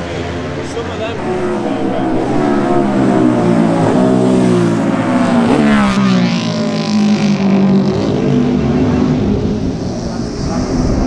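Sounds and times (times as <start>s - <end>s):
racing motorcycle passing: 0.0s - 11.0s.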